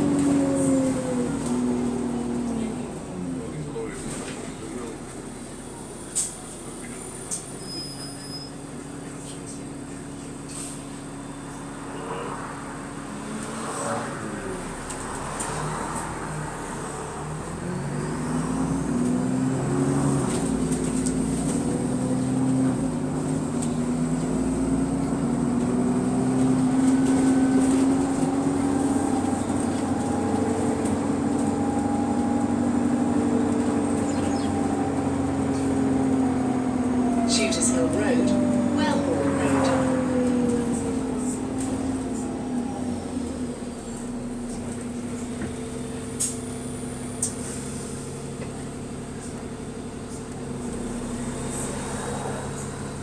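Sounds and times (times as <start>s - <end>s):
bus engine: 0.0s - 53.0s.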